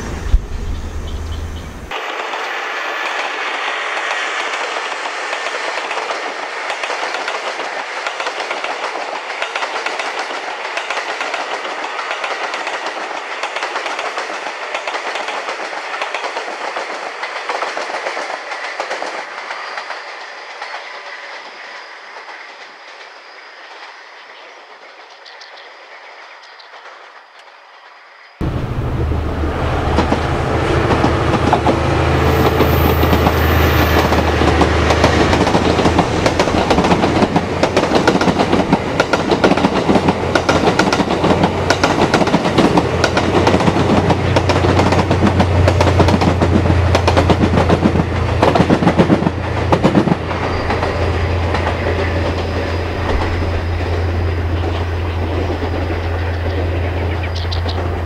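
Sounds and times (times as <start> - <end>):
train wheels clattering over rails: 0.0 - 24.1, 28.4 - 58.0
steady low train hum: 0.0 - 58.0.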